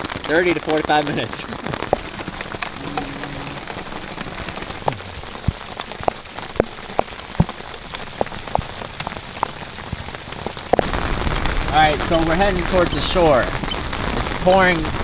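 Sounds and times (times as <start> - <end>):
heavy rain pouring: 0.0 - 15.0
loud raindrops striking: 0.0 - 15.0.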